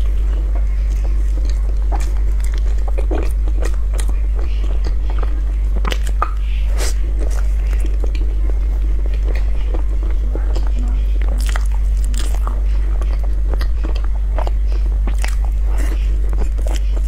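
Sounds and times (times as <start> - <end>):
low electrical hum: 0.0 - 17.0
person chewing soft food: 0.0 - 17.0.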